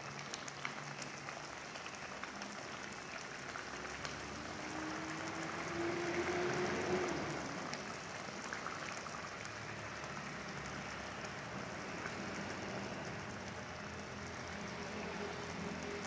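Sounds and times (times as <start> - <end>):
sizzling in hot oil: 0.0 - 16.0.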